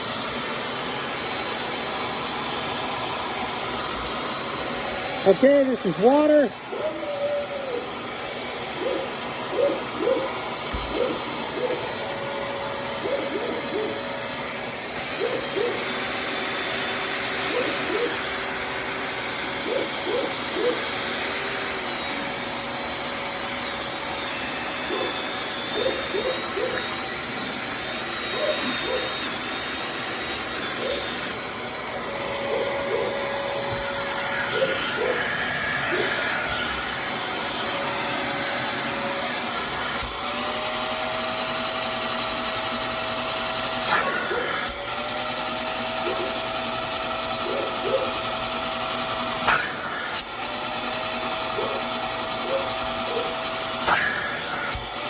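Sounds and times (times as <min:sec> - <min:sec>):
vacuum extractor motor running: 0:00.0 - 0:55.0.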